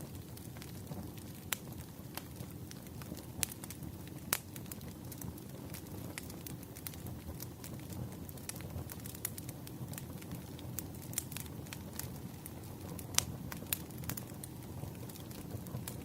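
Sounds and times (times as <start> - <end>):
firewood crackling and popping: 0.0 - 16.0
low rumble of fire: 0.0 - 16.0.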